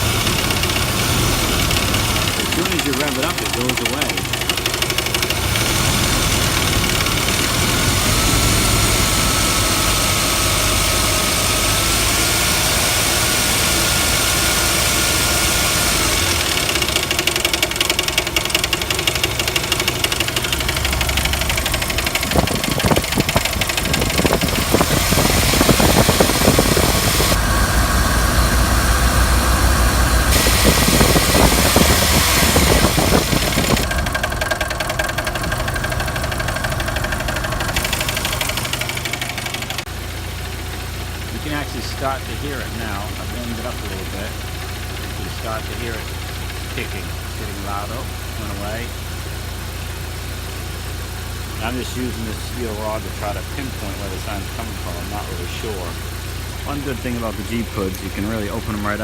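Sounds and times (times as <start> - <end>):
car engine idling: 0.0 - 59.0
engine knocking: 0.0 - 59.0.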